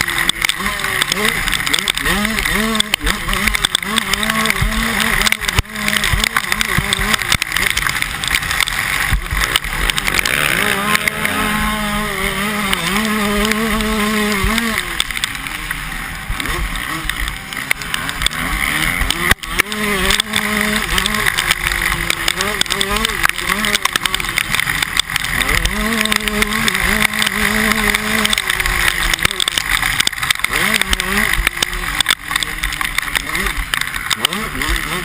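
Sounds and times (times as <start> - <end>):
motocross bike engines revving: 0.0 - 35.0.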